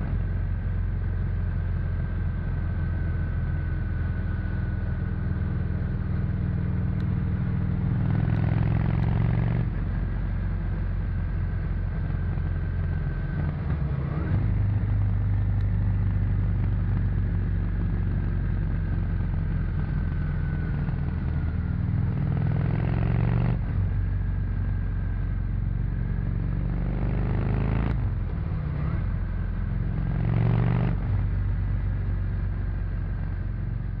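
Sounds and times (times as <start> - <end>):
motorcycle engine revving: 1.1 - 34.0.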